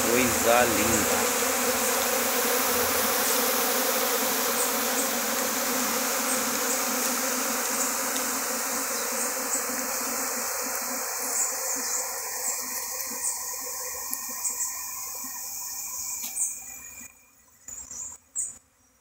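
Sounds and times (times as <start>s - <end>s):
honey bees buzzing: 0.0s - 17.2s.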